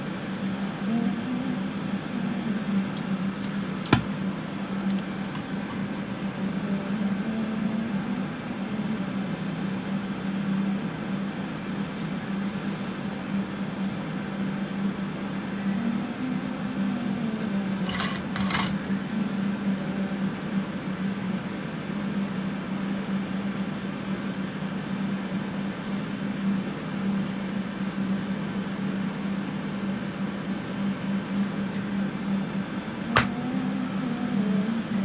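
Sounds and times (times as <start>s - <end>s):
electric fans humming: 0.0s - 35.0s.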